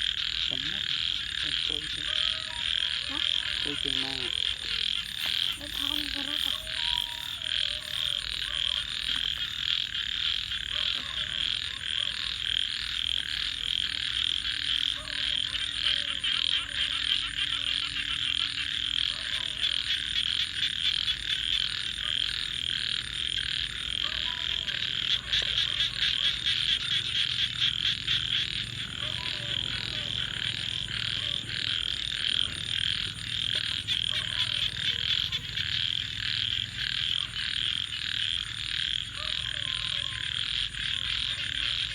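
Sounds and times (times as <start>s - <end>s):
frog chorus trilling: 0.0s - 41.9s
low frog croaks: 0.0s - 41.9s.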